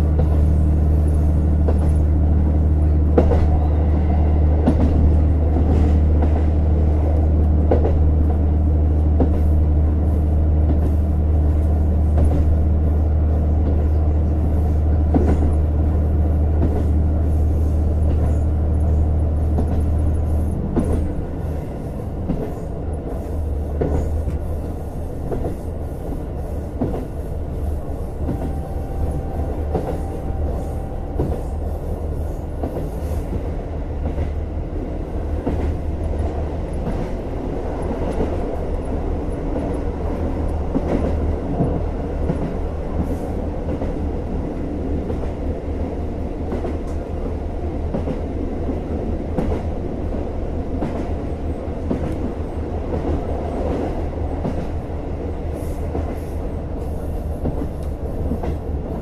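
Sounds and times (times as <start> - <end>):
diesel railcar rumbling: 0.0 - 59.0.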